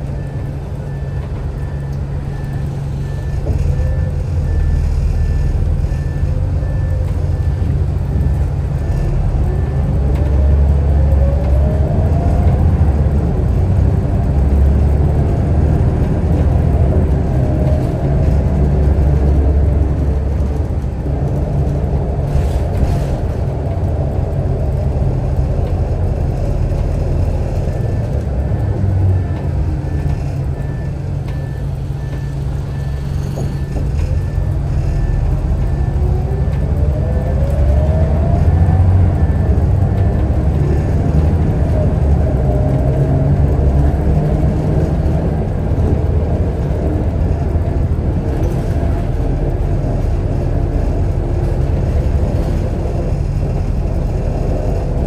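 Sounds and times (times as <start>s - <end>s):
bus diesel engine rumbling: 0.0s - 55.0s.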